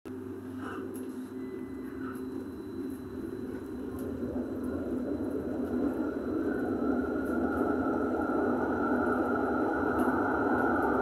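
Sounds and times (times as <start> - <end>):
tram wheels rumbling: 0.6 - 11.0.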